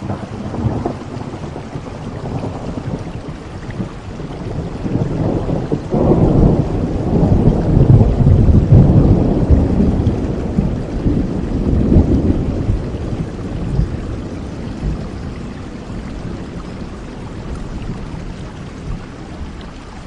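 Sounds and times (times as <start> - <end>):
thunder rolling: 0.0 - 19.5
steady rain: 0.0 - 20.0.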